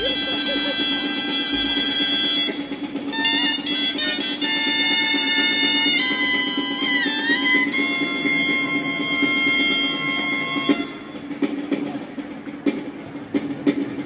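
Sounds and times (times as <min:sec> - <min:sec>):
reedy wind instrument melody: 0:00.0 - 0:11.8
drum beating: 0:00.0 - 0:14.0.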